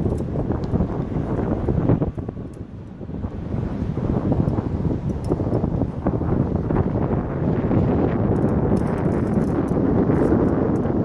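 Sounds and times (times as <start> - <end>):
strong wind gusting on microphone: 0.0 - 11.0.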